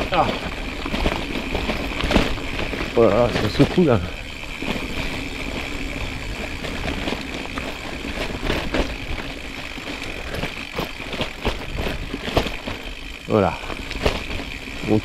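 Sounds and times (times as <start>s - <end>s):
bike rattling: 0.0s - 15.0s
bike tyres crunching over stones: 0.0s - 15.0s.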